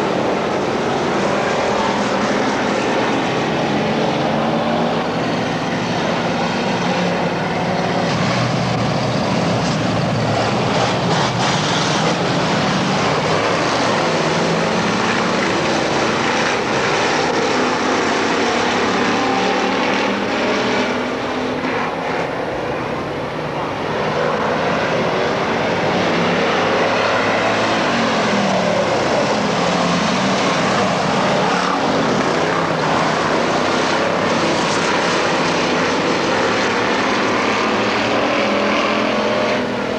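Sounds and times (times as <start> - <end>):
race car engines passing: 0.0 - 39.9.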